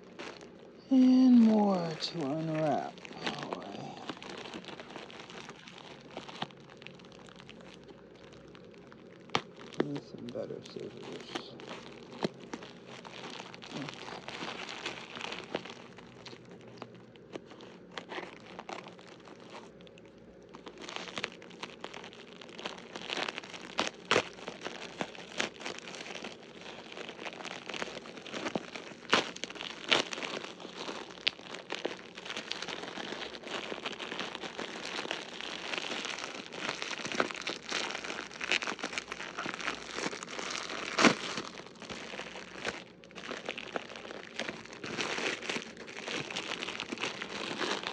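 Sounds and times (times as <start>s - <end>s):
plastic packaging crinkling: 0.0s - 47.9s.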